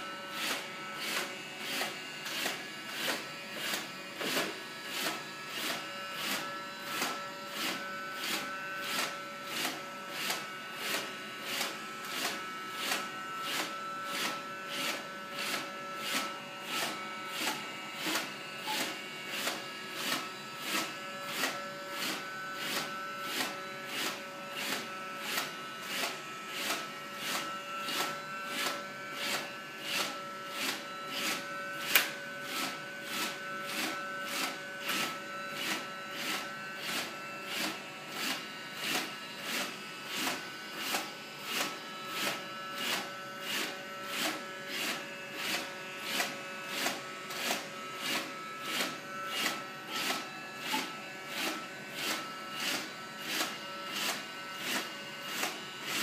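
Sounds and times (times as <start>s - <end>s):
robot vacuum motor whine: 0.0s - 56.0s.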